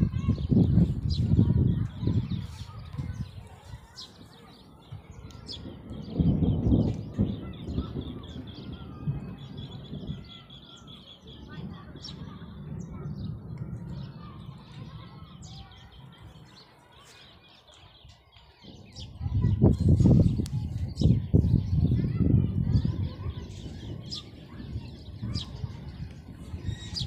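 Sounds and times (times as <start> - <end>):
birds chirping and calling: 0.0 - 27.0.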